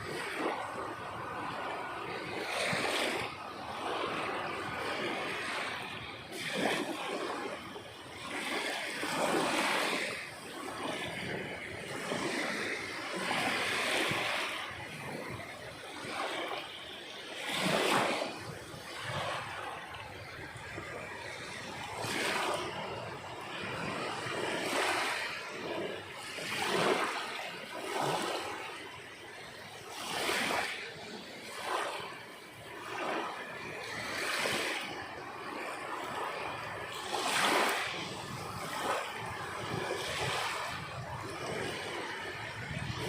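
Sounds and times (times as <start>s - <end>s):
sea waves breaking on shore: 0.0s - 43.0s.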